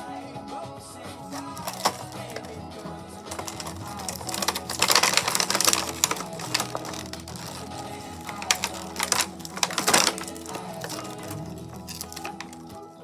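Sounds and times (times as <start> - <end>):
background music: 0.0 - 13.0
packaging crinkling and rustling: 1.2 - 13.0.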